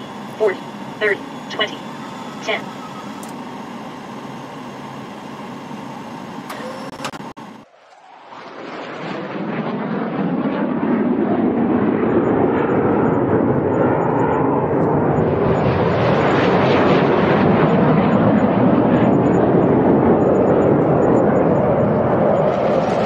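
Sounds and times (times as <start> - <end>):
jet engine drone: 0.0 - 23.0.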